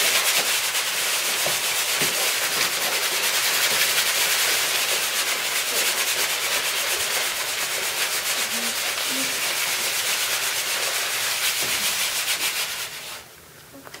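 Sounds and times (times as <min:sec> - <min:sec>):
group scratchy rubbing sound: 0:00.0 - 0:13.3.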